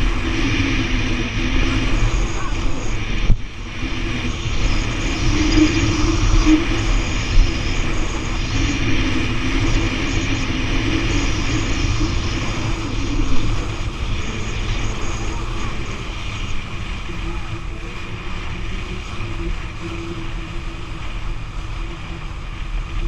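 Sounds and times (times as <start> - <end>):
speedboat engine running: 0.0 - 23.0
water noise: 0.0 - 23.0
wind: 0.0 - 23.0.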